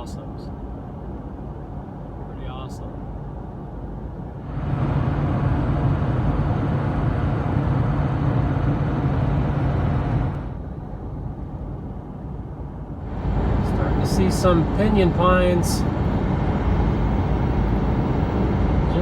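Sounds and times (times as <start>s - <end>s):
truck cab road noise: 0.0s - 19.0s.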